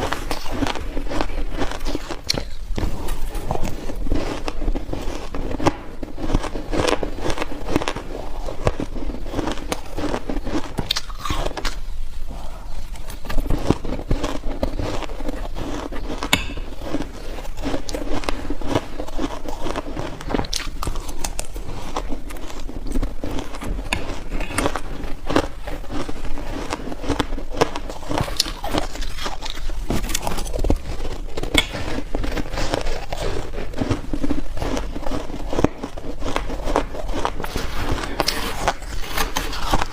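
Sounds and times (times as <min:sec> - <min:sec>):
crunching ice: 0:00.0 - 0:11.9, 0:12.8 - 0:39.9.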